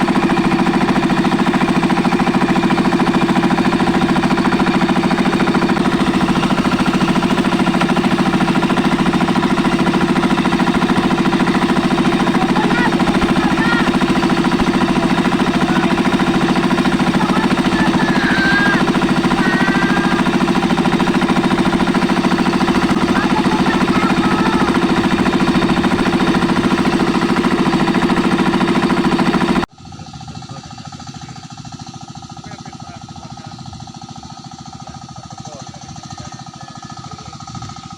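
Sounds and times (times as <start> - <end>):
tractor engine knocking: 0.0 - 37.9.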